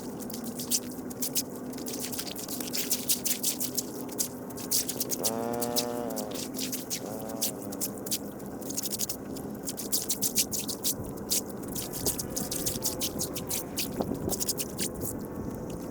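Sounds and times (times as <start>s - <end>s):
sharp ticks and pops: 0.0s - 15.9s
water dripping and splashing: 0.0s - 15.9s.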